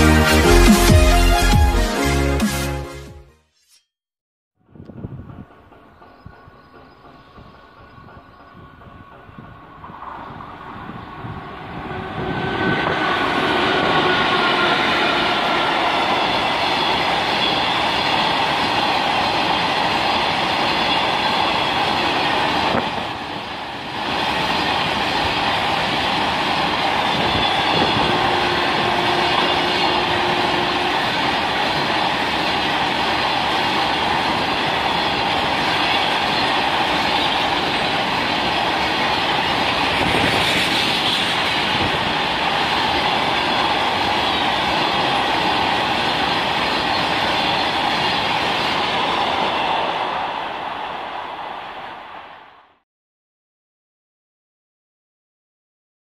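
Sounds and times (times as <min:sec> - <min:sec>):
freight train wheels on rails: 0:04.7 - 0:52.8.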